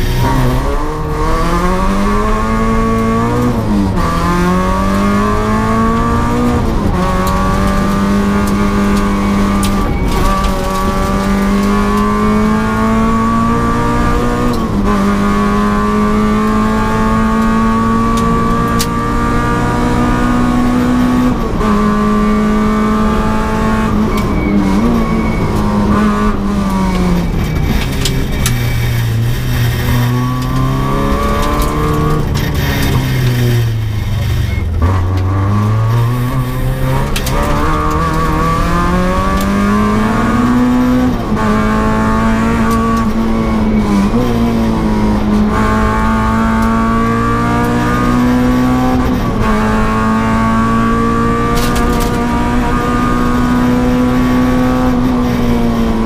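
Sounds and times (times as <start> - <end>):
rally car engine accelerating: 0.0 - 56.0.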